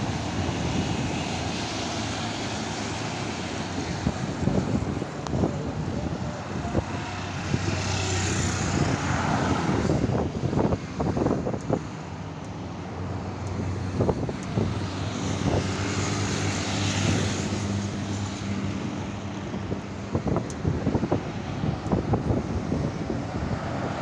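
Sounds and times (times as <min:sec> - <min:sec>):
trucks passing on highway: 0:00.0 - 0:24.0.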